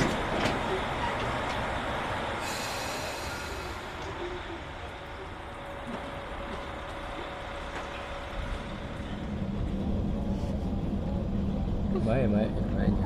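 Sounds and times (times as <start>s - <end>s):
diesel railcar engine running: 0.0s - 13.0s.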